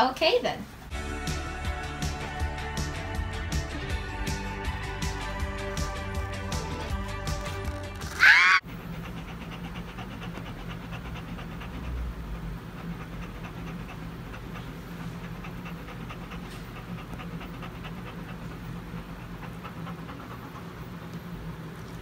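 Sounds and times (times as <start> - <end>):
dog panting: 1.3 - 7.8, 8.4 - 22.0.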